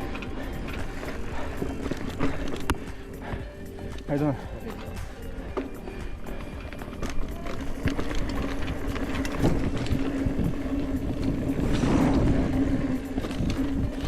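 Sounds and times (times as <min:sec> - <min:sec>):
bike rattles: 0:00.0 - 0:14.0
bike rolling over dirt trail: 0:00.0 - 0:14.0
steady hum from bike: 0:00.0 - 0:14.0.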